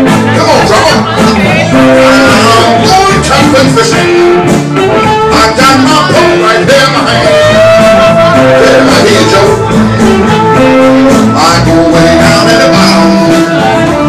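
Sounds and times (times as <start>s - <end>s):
blues band playing: 0.0s - 14.0s
electric guitar: 0.0s - 14.0s
man singing: 0.0s - 14.0s.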